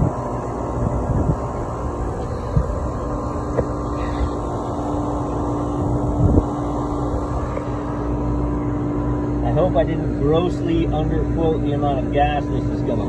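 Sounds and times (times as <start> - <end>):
compressor humming: 0.0 - 13.0
steady hum tone: 0.0 - 13.0.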